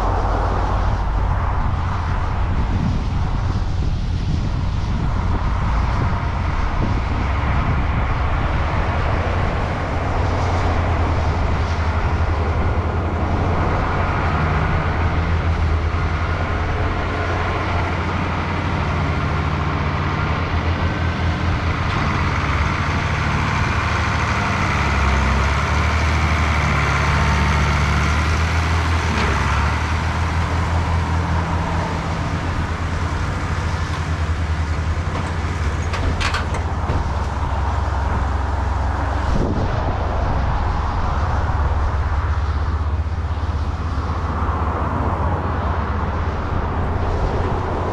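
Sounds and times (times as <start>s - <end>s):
diesel machinery engine throb: 0.0s - 47.9s
mechanical rush: 0.0s - 47.9s.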